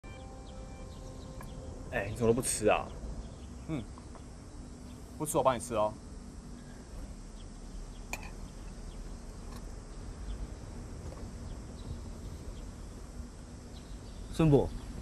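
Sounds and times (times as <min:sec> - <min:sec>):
faint bird chirps: 0:00.0 - 0:15.0
steady low hum: 0:00.0 - 0:15.0.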